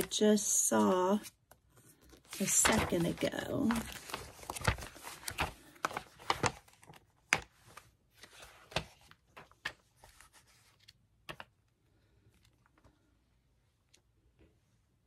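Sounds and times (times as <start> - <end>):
magazine pages rustling and turning: 0.0 - 13.1.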